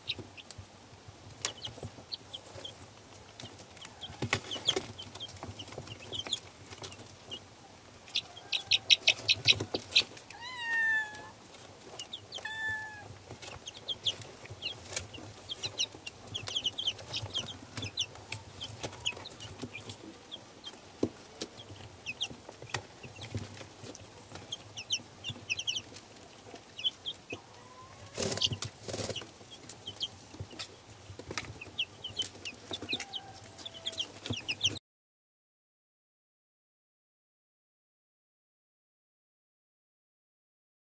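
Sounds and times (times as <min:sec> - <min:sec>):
chicks pecking taps: 0:00.0 - 0:34.8
chicks peeping: 0:00.0 - 0:34.8.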